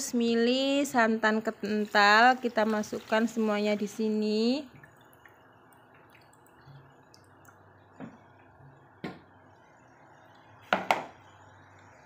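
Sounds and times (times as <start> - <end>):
milk dripping into a wok: 1.6 - 12.0.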